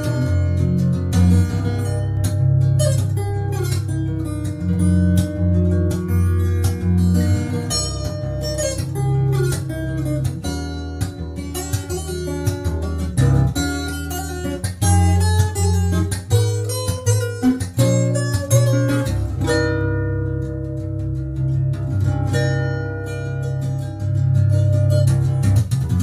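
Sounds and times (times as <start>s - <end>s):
acoustic guitar fingerstyle melody: 0.0s - 26.0s.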